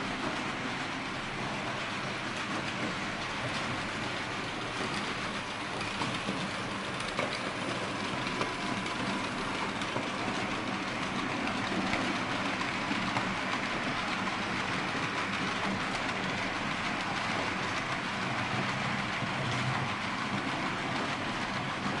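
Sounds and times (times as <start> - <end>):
model train rolling rumble: 0.0 - 22.0
wheels clicking on track: 0.0 - 22.0.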